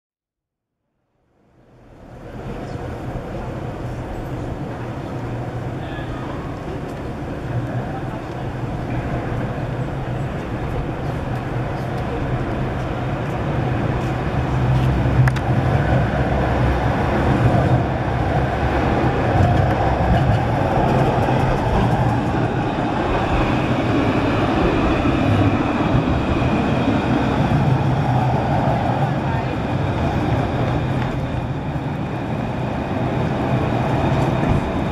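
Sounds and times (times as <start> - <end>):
city street noise: 0.8 - 34.9
electric tram humming and whining: 1.1 - 34.9.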